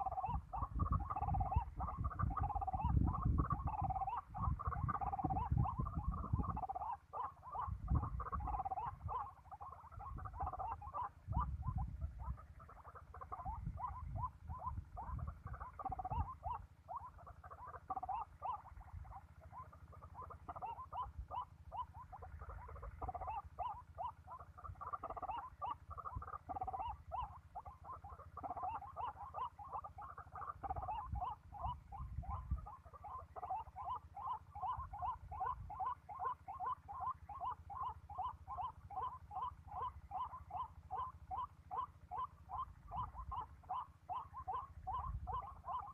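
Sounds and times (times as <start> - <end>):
waterhen croaking calls: 0.0 - 45.9.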